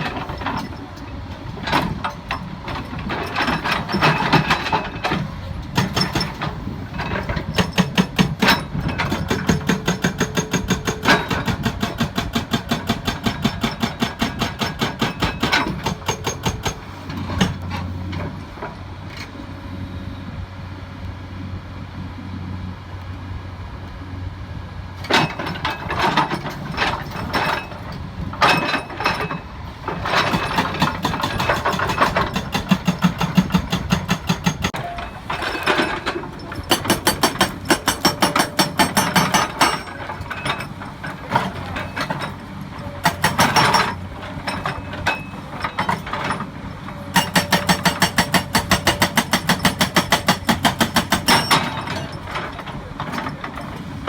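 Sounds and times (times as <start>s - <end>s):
hydraulic breaker hammering rock: 0.0s - 17.9s, 25.0s - 54.0s
diesel engine running: 0.0s - 54.0s.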